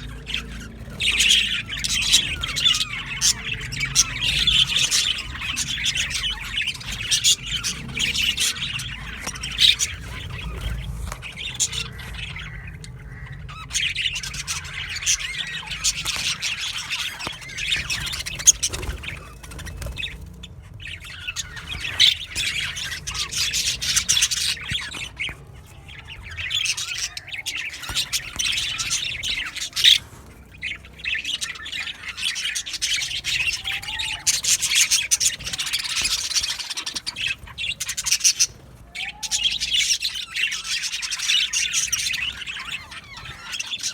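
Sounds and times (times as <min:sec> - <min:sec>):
budgerigars chattering and squawking: 0:00.0 - 0:43.9.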